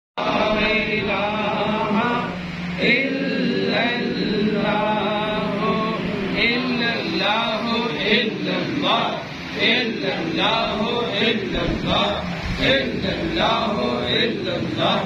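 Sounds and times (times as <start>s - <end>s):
man chanting melodically: 0.2s - 15.0s.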